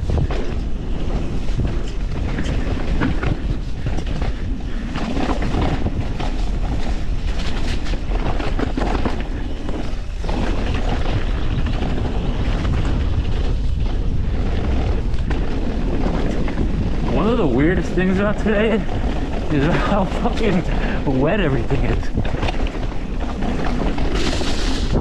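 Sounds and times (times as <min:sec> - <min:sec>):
bike knocks and rattles: 0:00.0 - 0:25.0
tyres rolling over dirt and rock: 0:00.0 - 0:25.0
wind buffeting microphone: 0:00.0 - 0:25.0.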